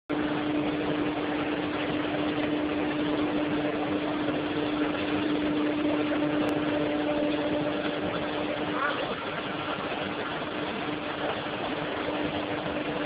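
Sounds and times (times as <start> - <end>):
production line machinery hum: 0.1 - 13.0.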